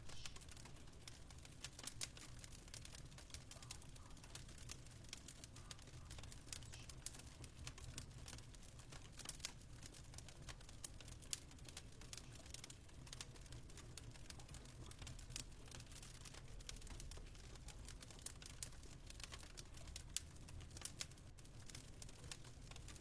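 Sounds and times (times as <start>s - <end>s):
fireplace crackling: 0.0s - 23.0s.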